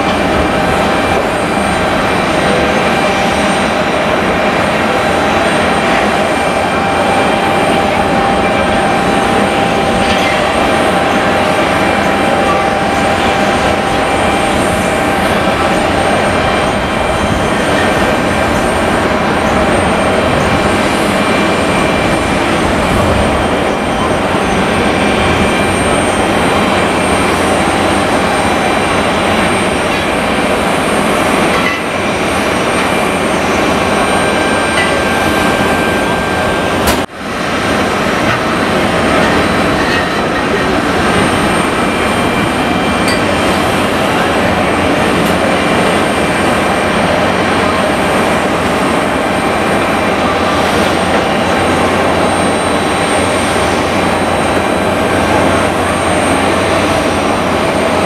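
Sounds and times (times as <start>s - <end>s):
jet engines rushing: 0.0s - 58.0s
thin steady whines: 0.0s - 58.0s.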